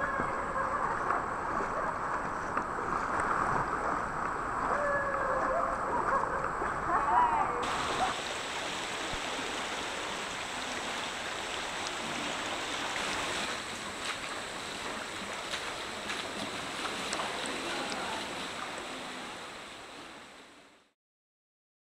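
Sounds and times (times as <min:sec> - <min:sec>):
river water rushing over rocks: 0:00.2 - 0:20.8.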